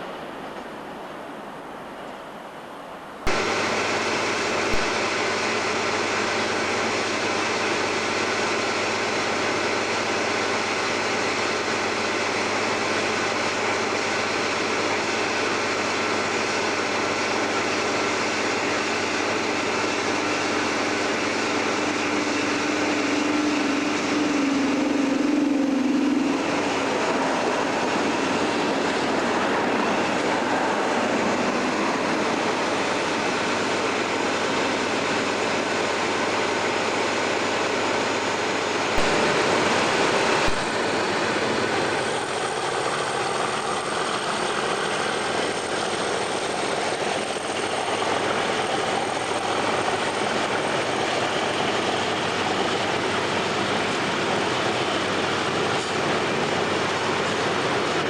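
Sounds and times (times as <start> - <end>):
freight train wagons rumbling on rails: 0.0 - 58.0.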